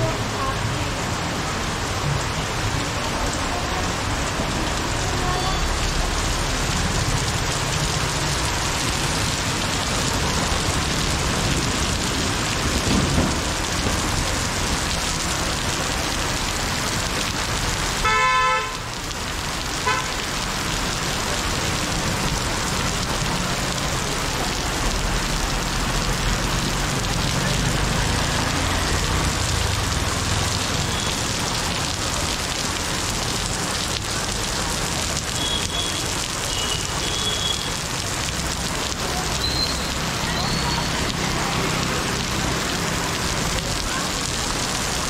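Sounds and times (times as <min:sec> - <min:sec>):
heavy rain hissing: 0:00.0 - 0:45.0.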